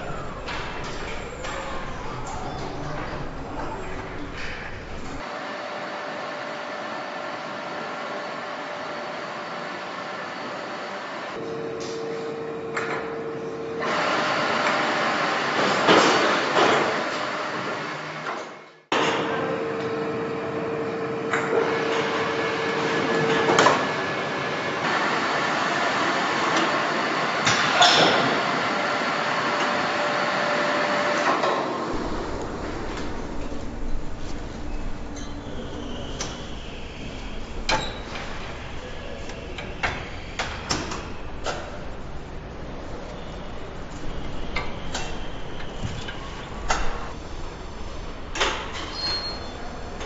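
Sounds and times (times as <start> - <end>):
assembly line machinery din: 0.0 - 18.2, 19.0 - 50.0
factory hall rush: 0.0 - 50.0.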